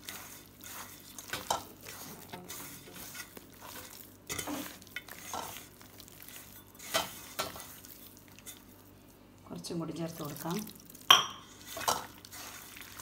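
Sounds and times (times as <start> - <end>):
wet mixing in a bowl: 0.0 - 13.0.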